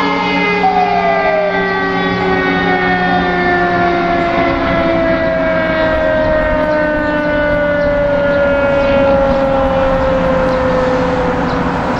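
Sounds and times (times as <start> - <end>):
mechanical siren winding down: 0.0 - 11.9
traffic noise: 0.0 - 11.9.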